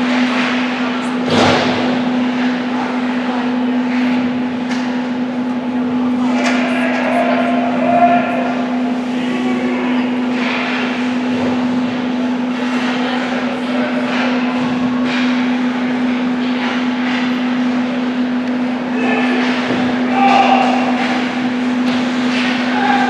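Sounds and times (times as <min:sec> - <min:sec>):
distant voices: 0:00.0 - 0:23.0
steady low hum: 0:00.0 - 0:23.0.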